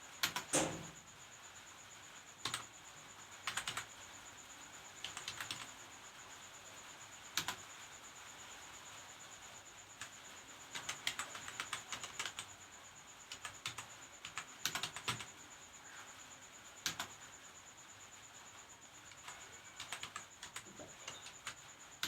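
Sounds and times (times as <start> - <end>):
faint high-pitched whine: 0.0 - 22.0.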